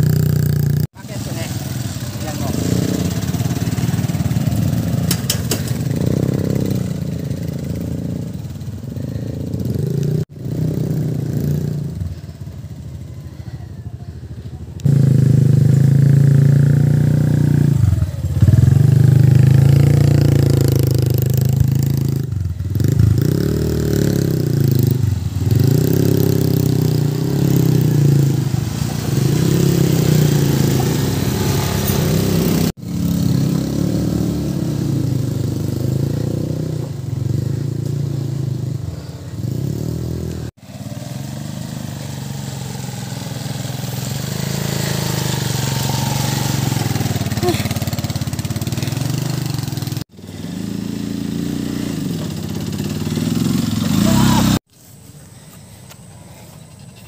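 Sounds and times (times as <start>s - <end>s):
motorcycle engine revving: 0.0s - 54.7s.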